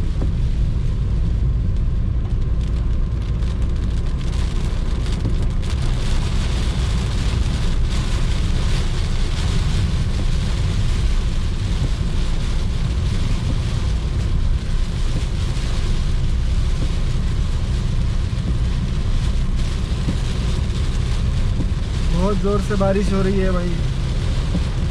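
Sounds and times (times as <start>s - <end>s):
heavy rain on a car: 0.0s - 24.9s
road and engine rumble: 0.0s - 24.9s.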